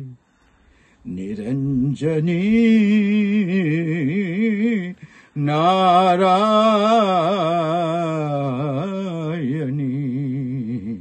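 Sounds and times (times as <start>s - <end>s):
man singing a chant: 0.0s - 0.2s, 1.0s - 11.0s.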